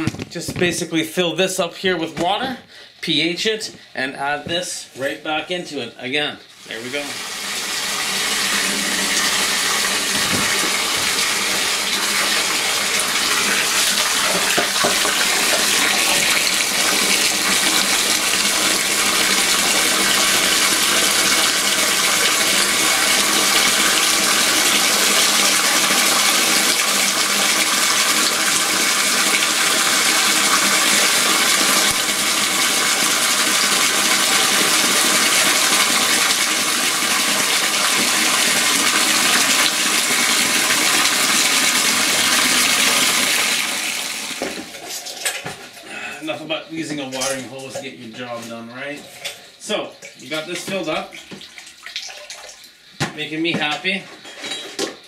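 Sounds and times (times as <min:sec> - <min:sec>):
hose water pouring into plastic tub: 0:06.5 - 0:54.0.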